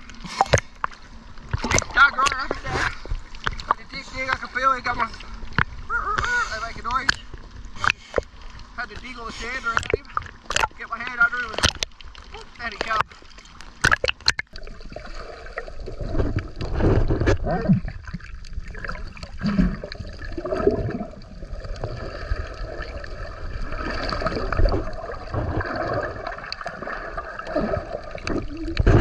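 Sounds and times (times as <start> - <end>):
muffled underwater wash: 0.0 - 29.0
water sloshing and gurgling: 0.0 - 29.0.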